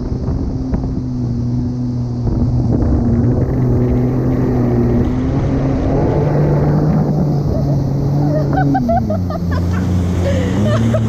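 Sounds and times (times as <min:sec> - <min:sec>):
jet ski engine running: 0:00.0 - 0:11.0
water rushing in wake: 0:00.0 - 0:11.0.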